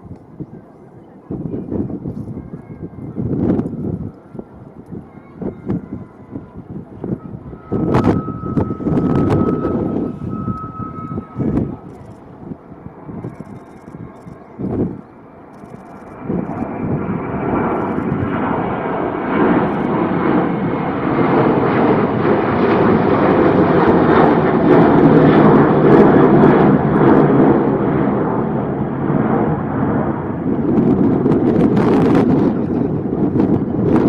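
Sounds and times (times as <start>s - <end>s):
jet engines at takeoff power: 0.0s - 34.0s
wind buffeting microphone: 0.0s - 34.0s.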